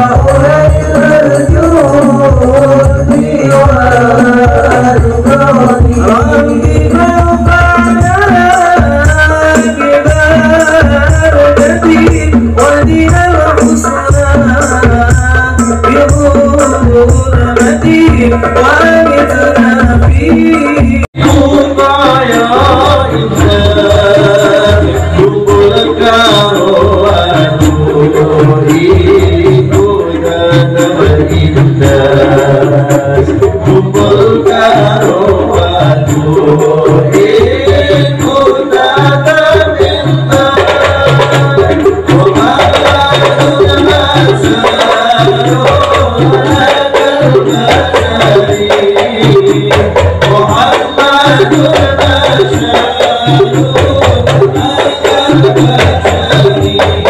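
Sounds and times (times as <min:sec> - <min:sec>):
devotional singing over percussion: 0:00.0 - 0:57.0.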